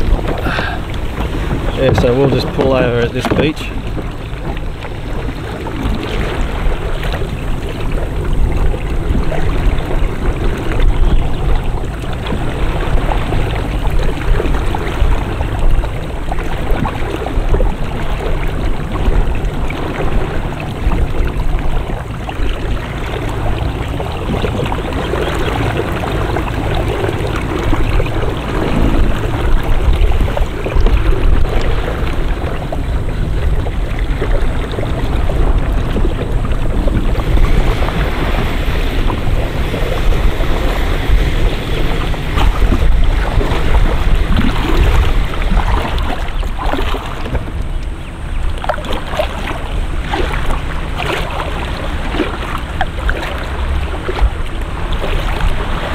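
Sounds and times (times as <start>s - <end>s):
water sloshing around kayak: 0.0s - 55.9s
wind buffeting microphone: 0.0s - 55.9s.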